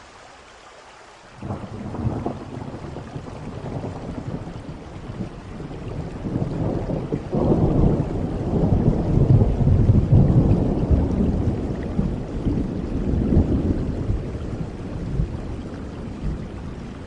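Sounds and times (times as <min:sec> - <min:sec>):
steady rain: 0:00.0 - 0:17.0
thunder rumbling: 0:01.4 - 0:17.0.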